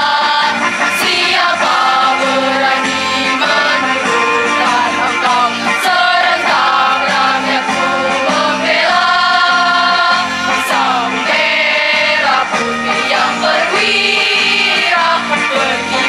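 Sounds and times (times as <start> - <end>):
girls' choir singing: 0.0 - 16.0.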